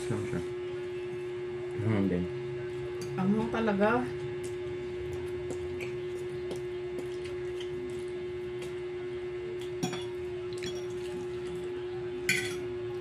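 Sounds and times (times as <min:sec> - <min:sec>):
steady one-pitch hum: 0:00.0 - 0:13.0.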